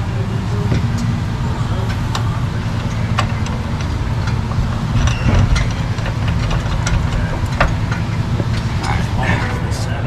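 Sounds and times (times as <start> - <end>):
motor running with low rumble: 0.0 - 10.0.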